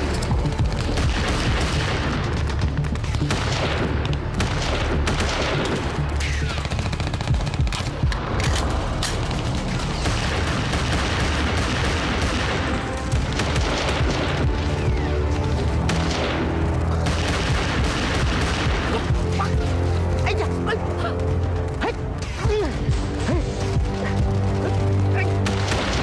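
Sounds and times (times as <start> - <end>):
rapid gunfire: 0.0 - 26.0.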